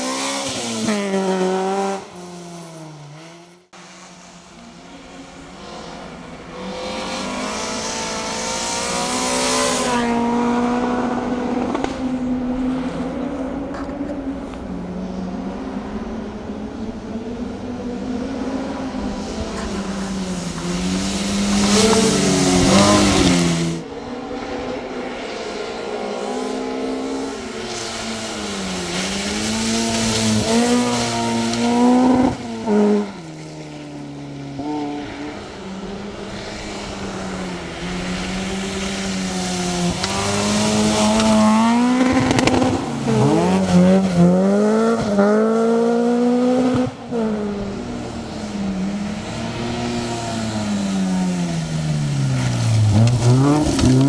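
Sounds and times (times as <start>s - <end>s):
rally car engine revving: 0.0s - 3.9s, 4.6s - 33.8s, 34.5s - 54.0s.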